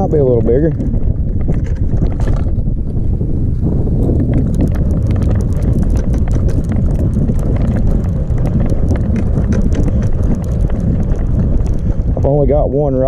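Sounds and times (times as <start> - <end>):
sharp clicks and ticks: 0.0 - 3.0, 3.6 - 13.0
wind buffeting microphone: 0.0 - 13.0.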